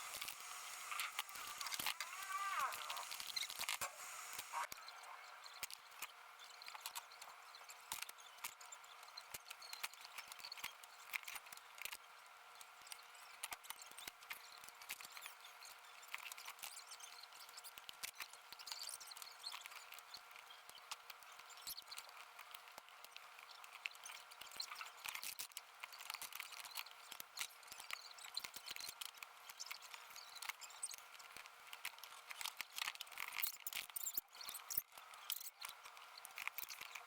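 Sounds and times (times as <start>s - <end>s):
small parts and tools clicking: 0.0s - 4.9s, 5.5s - 37.0s
faint steady hum: 0.0s - 37.0s.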